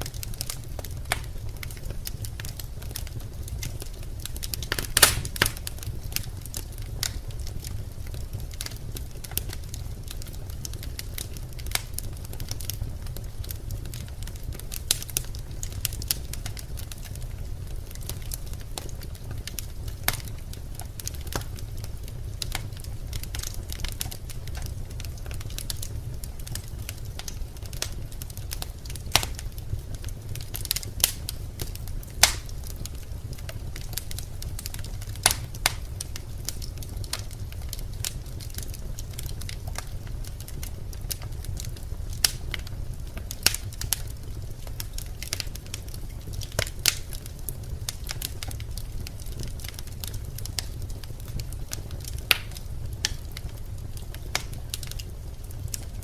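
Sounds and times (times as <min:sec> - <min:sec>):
fire crackling and popping: 0:00.0 - 0:56.0
low rumble of flame: 0:00.0 - 0:56.0.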